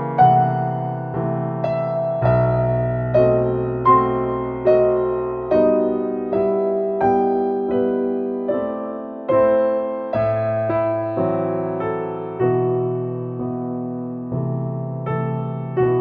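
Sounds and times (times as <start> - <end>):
slow gentle piano melody: 0.0 - 16.0.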